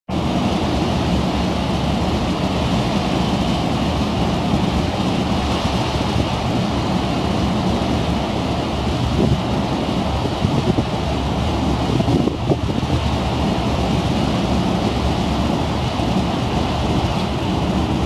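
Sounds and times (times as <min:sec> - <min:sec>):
churning wake water: 0:00.1 - 0:18.0
low engine rumble: 0:00.1 - 0:18.0
wind on microphone: 0:00.1 - 0:18.0.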